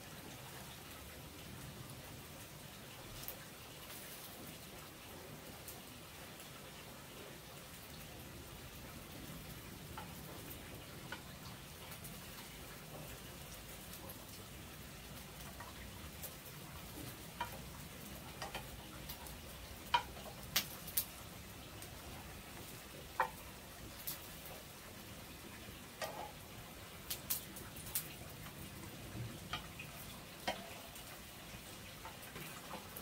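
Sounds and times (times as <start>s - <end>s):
dough frying sizzle: 0.0s - 33.0s.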